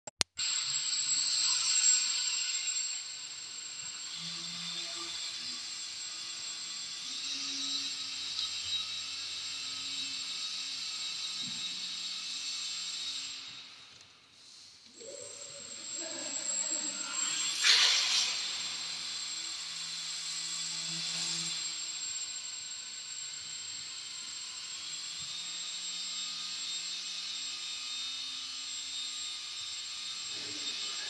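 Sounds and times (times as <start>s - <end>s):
electric motor and propeller whirring: 0.4s - 31.0s.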